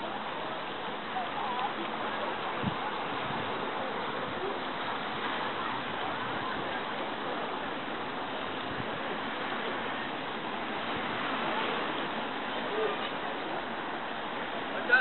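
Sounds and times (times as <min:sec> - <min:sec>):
hiss-like outdoor ambience: 0:00.0 - 0:15.0.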